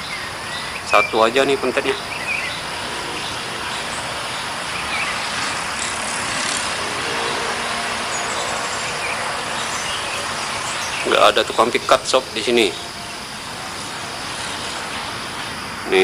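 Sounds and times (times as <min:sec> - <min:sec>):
vehicle passing: 0:01.2 - 0:15.6.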